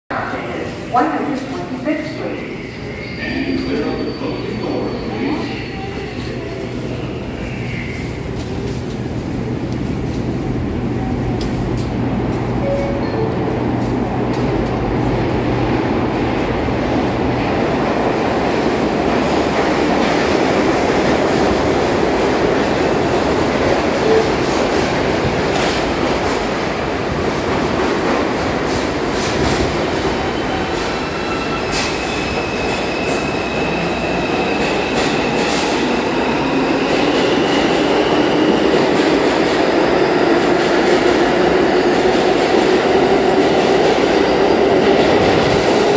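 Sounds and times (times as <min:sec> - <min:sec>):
subway train wheels rumbling: 0:00.1 - 0:45.9.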